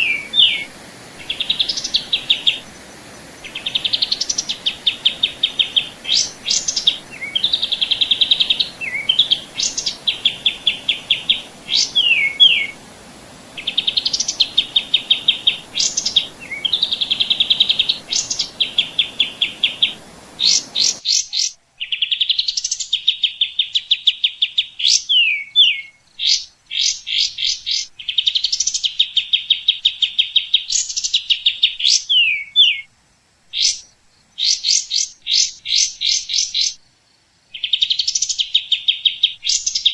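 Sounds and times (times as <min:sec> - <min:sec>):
songbird singing trills: 0:00.0 - 0:32.9
faint background hiss: 0:00.0 - 0:39.9.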